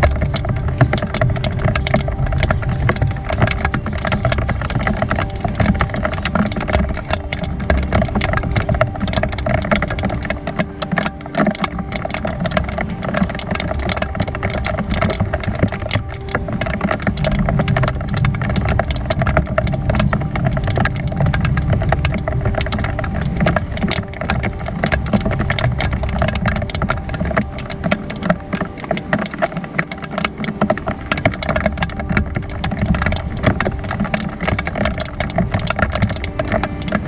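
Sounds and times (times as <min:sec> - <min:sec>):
rain low rumble: 0:00.0 - 0:37.0
raindrops ticking: 0:00.0 - 0:37.0.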